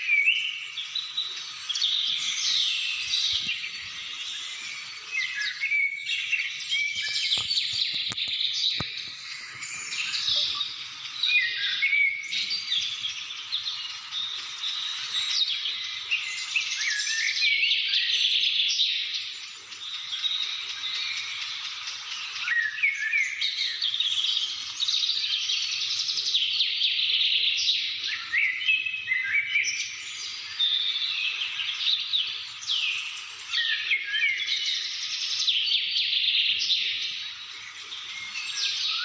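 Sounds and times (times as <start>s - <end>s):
chorus of birds singing: 0.0s - 39.0s.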